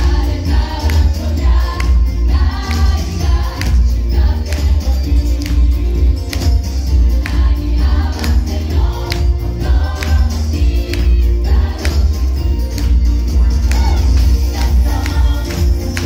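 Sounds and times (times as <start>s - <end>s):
mixed choir singing upbeat song: 0.0s - 16.0s.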